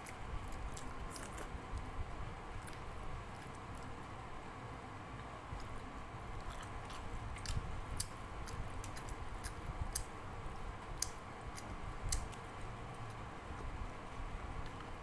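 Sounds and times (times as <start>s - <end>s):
crunchy chewing of fried fish: 0.0s - 4.0s, 5.1s - 13.8s.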